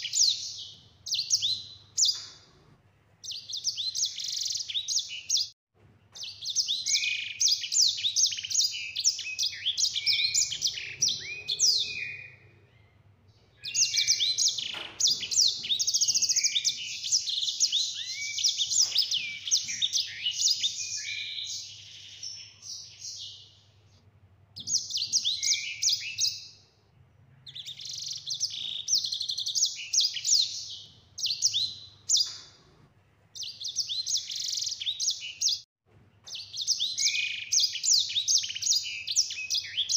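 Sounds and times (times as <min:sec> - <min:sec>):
finch twittering song: 0:00.0 - 0:02.6, 0:03.2 - 0:05.5, 0:06.1 - 0:23.7, 0:24.6 - 0:26.7, 0:27.4 - 0:32.7, 0:33.4 - 0:35.6, 0:36.2 - 0:39.9.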